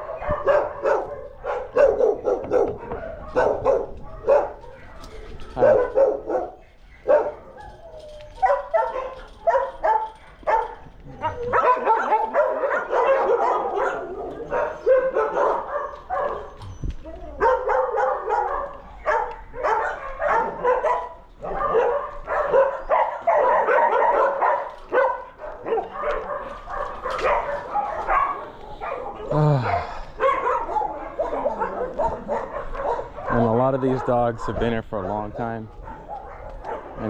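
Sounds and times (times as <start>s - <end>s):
dogs barking: 0.0s - 37.0s.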